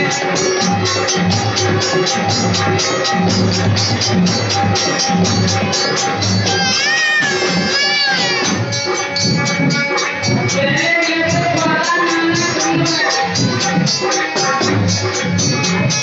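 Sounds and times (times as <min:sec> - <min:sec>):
drum beat: 0:00.0 - 0:16.0
jingling percussion: 0:00.0 - 0:16.0.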